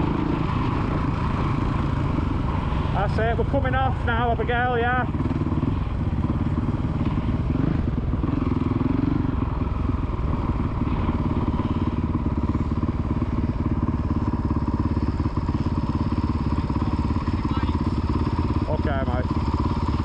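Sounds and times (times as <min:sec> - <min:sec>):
small motorbike engine running: 0:00.0 - 0:20.0.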